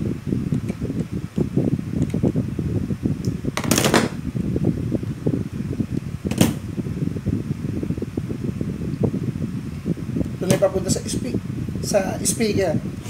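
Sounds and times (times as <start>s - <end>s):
low rumble of air noise: 0.0s - 13.0s.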